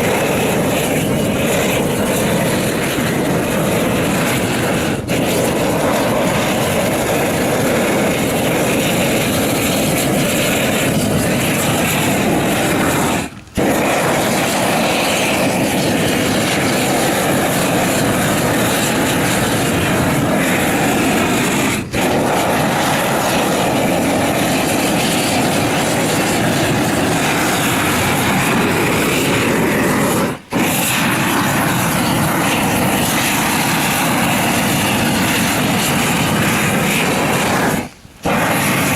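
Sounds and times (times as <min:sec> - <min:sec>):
gas torch roaring: 0:00.0 - 0:38.9.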